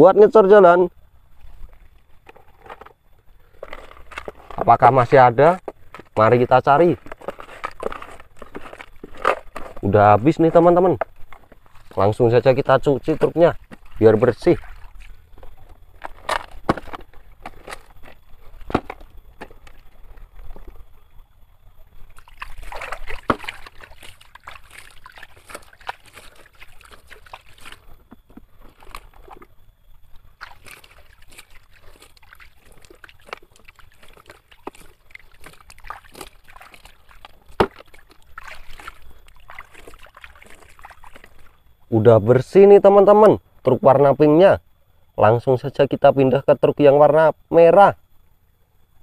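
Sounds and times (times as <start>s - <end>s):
water sloshing and trickling: 1.2s - 42.6s.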